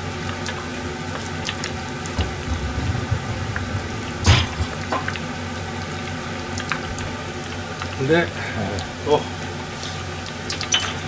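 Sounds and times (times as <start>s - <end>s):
tempura deep-frying in oil: 0.0s - 11.0s.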